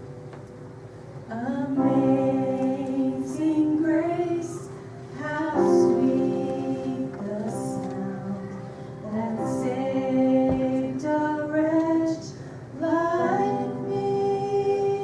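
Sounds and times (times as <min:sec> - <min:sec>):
sustained keyboard accompaniment: 0:00.0 - 0:15.0
woman singing: 0:01.3 - 0:15.0.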